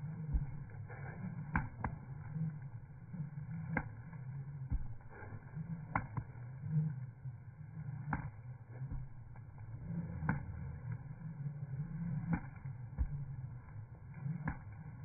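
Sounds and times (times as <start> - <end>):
jump rope swishing: 0.0 - 15.0
low rumble: 0.0 - 15.0
rope slaps: 0.1 - 7.0, 7.6 - 15.0.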